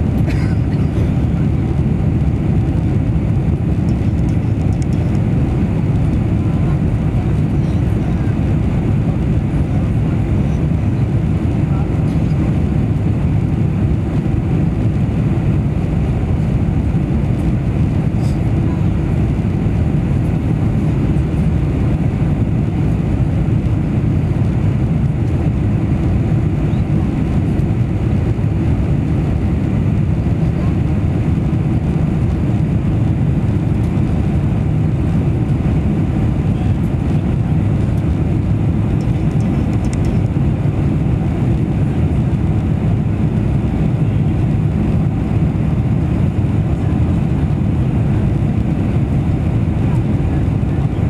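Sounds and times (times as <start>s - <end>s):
jet engines rumbling: 0.0s - 51.0s
rushing airflow: 0.0s - 51.0s.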